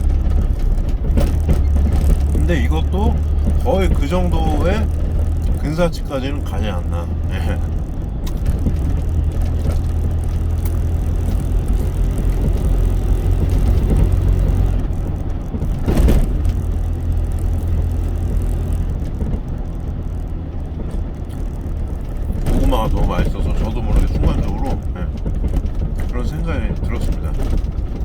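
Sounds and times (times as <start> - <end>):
truck engine and road drone: 0.0 - 28.0.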